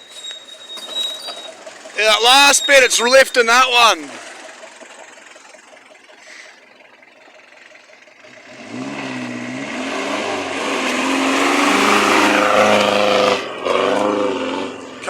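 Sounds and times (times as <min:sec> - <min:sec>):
off-road vehicle engine revving: 0:01.1 - 0:15.0.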